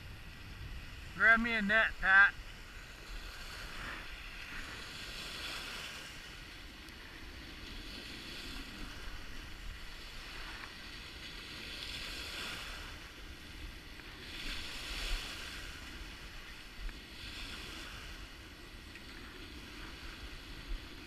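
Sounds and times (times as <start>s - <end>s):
waves washing up a sandy shore: 0.0s - 21.0s
wind rumble on microphone: 0.0s - 21.0s.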